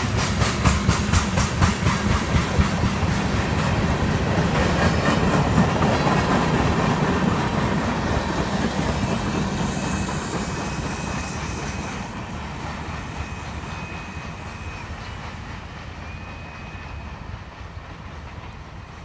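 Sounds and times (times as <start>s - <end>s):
freight train rolling on rails: 0.0s - 19.0s.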